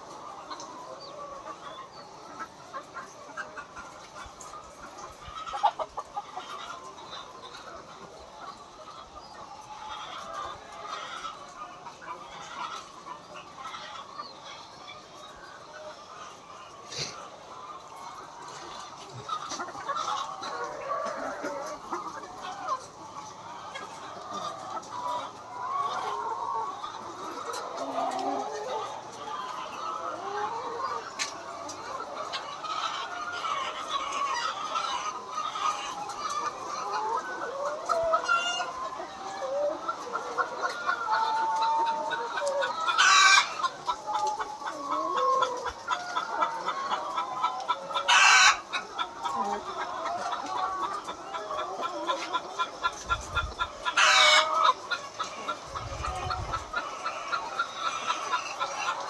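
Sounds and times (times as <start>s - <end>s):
flock of hens clucking: 0.0s - 59.0s.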